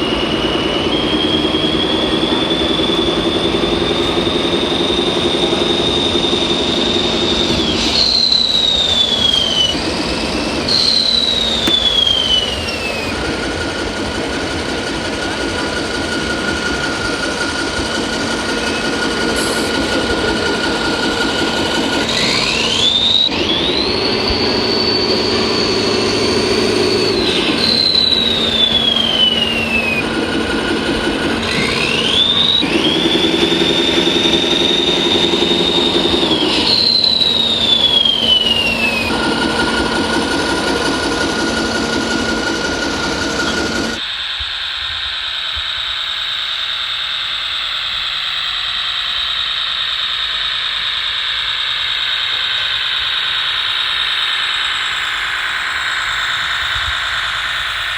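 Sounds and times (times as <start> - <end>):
electric motors humming: 0.0 - 57.9
high motor whine: 0.0 - 57.9.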